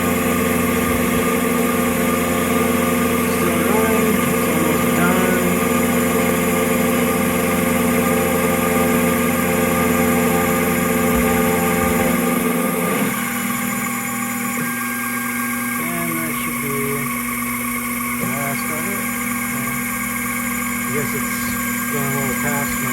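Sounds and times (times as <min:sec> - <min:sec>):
milling machine whirring: 0:00.0 - 0:22.9.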